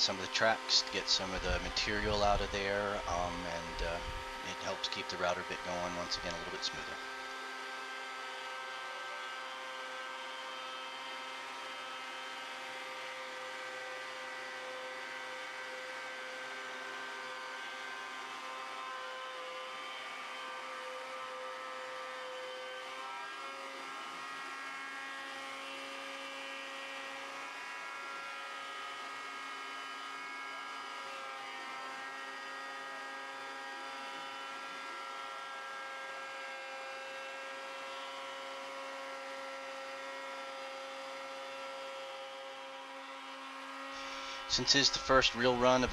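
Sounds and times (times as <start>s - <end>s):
shop vacuum running: 0.0s - 45.9s
wood router cutting: 0.0s - 45.9s.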